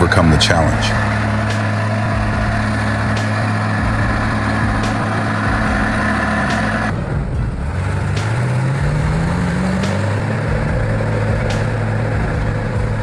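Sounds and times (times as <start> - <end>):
diesel truck engine labouring: 0.0 - 13.0.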